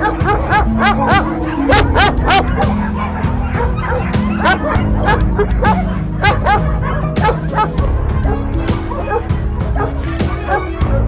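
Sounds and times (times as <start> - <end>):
background music low notes: 0.0 - 11.0
dogs barking: 0.0 - 11.0.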